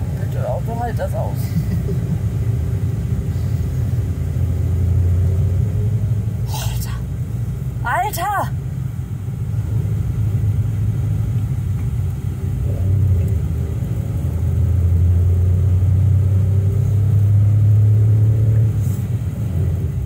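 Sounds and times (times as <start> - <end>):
car engine hum: 0.0 - 20.0
road noise in car cabin: 0.0 - 20.0.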